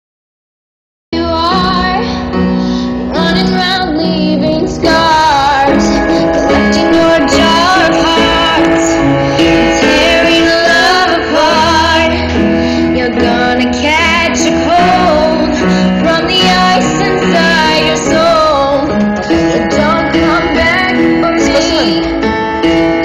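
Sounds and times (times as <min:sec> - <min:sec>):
song with singing voice: 0:01.2 - 0:23.0.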